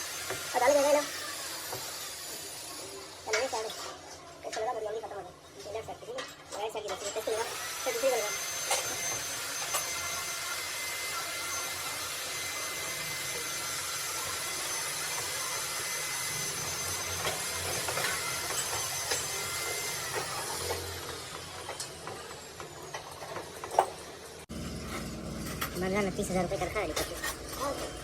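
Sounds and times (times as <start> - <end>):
workshop machine hiss and whine: 0.0 - 4.6, 7.1 - 28.0.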